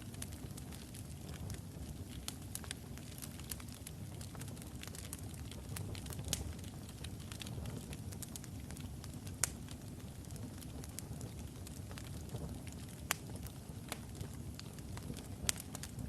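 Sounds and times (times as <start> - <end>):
fire crackles: 0.0 - 16.0
low rumble of flames: 0.0 - 16.0
sharp pops of burning logs: 2.3 - 16.0.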